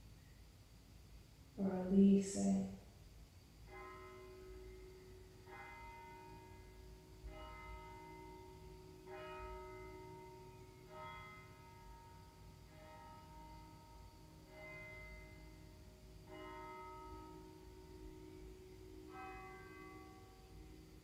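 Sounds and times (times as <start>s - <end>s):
faint church bells ringing: 3.6s - 21.0s.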